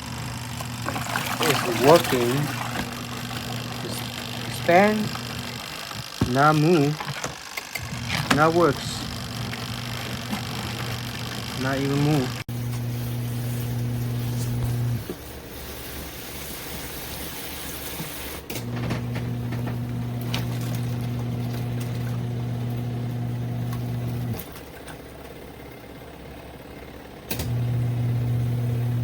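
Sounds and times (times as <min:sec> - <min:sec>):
washing machine motor humming: 0:00.0 - 0:29.0.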